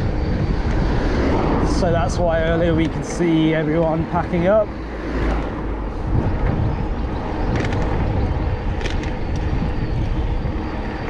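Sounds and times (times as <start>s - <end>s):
bicycle rolling rumble: 0.0s - 11.0s.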